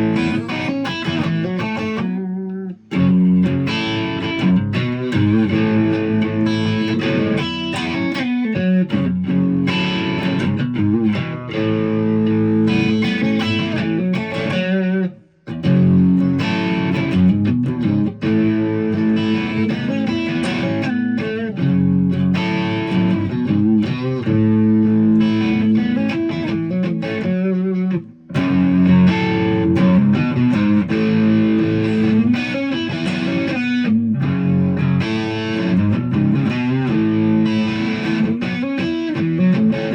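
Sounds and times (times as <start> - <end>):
electric guitar through amplifier: 0.0 - 39.9.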